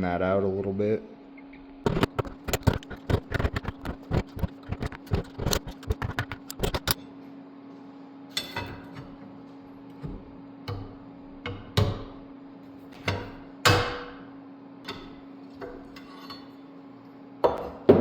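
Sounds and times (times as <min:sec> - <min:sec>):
steady hum: 0:00.0 - 0:17.6.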